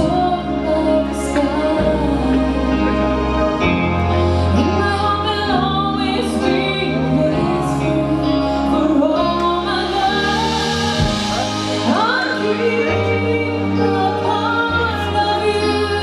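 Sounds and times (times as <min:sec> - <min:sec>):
backing band: 0:00.0 - 0:16.0
woman singing ballad: 0:00.0 - 0:16.0.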